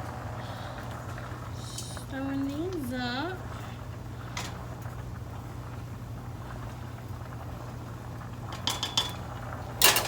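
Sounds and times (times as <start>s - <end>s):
stove low hum: 0.0s - 10.0s.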